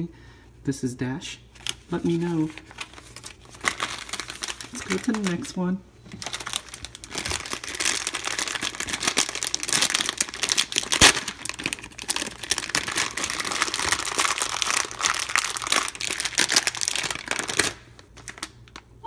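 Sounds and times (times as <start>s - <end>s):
plastic packet crinkling: 1.6s - 19.0s.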